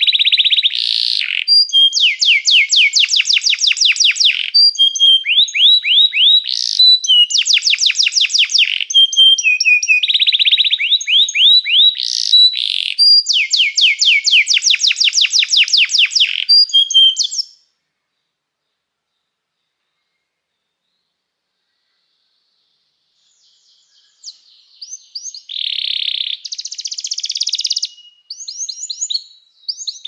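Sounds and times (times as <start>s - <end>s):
canary singing trills: 0.0s - 17.7s, 23.2s - 30.0s.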